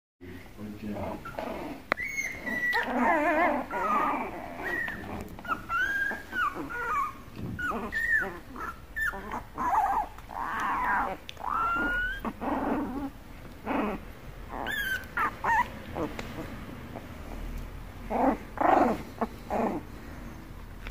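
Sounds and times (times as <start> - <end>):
puppies growling: 0.6 - 20.9
puppies squealing and whining: 0.8 - 20.5.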